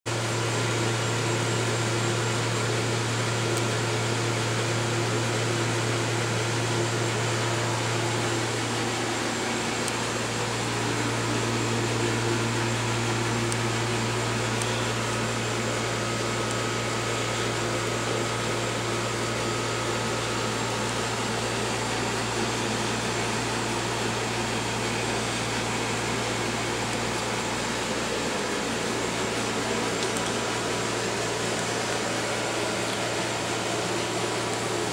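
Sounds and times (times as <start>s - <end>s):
low hum with hiss: 0.1s - 34.9s.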